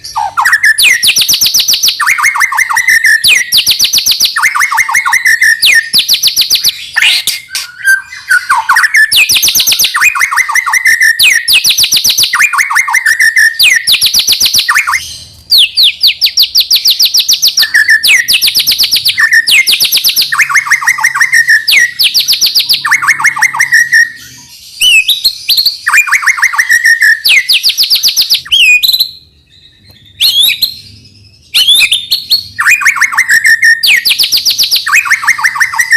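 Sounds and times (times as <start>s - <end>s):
bird singing rattling trills: 0.0s - 35.9s.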